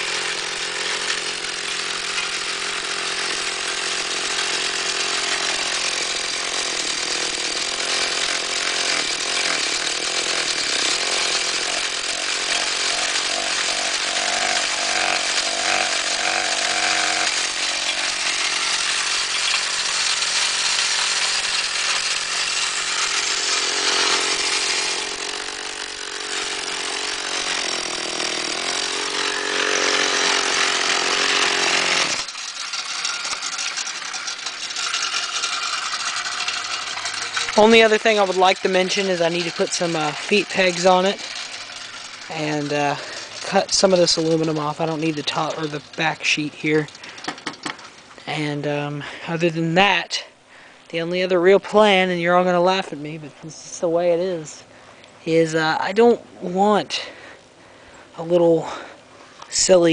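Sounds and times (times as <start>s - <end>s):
two-stroke engine revving high: 0.0s - 49.8s.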